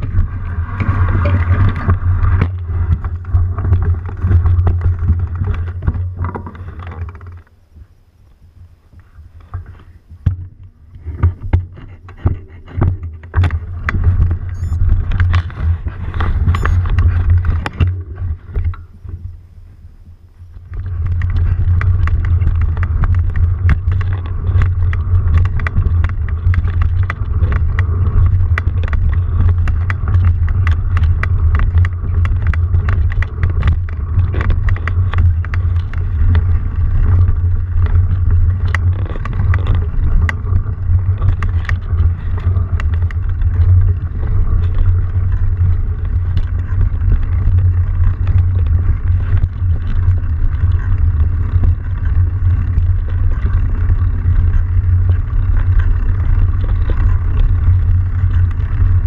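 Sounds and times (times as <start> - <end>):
camera rattling and knocking: 0.0 - 7.5, 10.2 - 18.9, 20.6 - 59.0
low rumble: 0.0 - 59.0.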